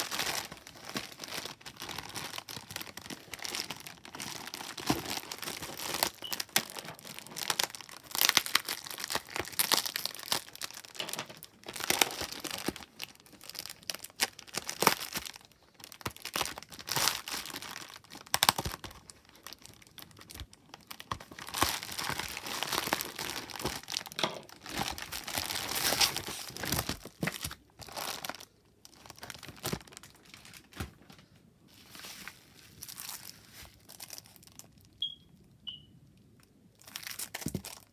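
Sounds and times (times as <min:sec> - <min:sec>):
packaging crinkling and tearing: 0:00.0 - 0:34.9, 0:36.8 - 0:37.9.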